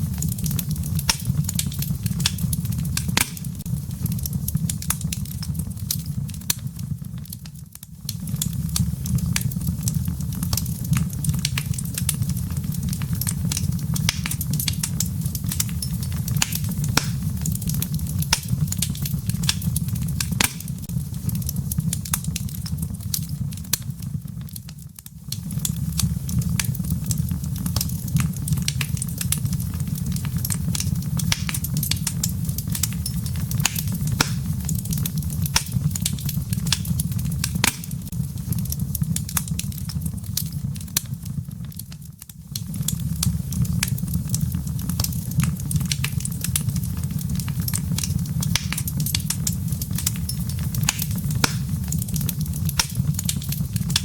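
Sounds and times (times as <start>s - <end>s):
fire crackling: 0.0s - 54.0s
low rumble of flames: 0.0s - 54.0s.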